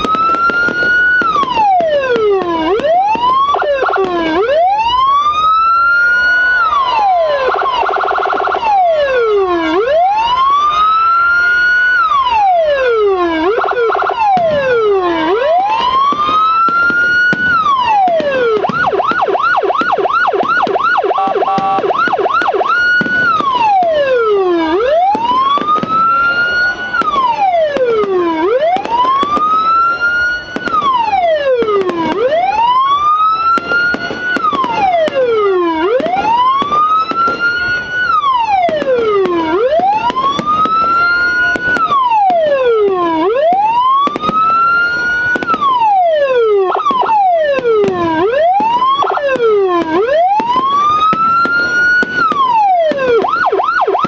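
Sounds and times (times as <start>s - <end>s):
electronic siren wailing: 0.0s - 54.0s.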